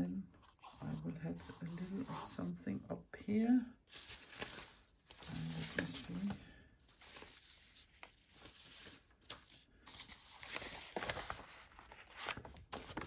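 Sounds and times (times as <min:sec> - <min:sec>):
paper rustling and crinkling: 0:00.3 - 0:02.4, 0:03.9 - 0:13.0.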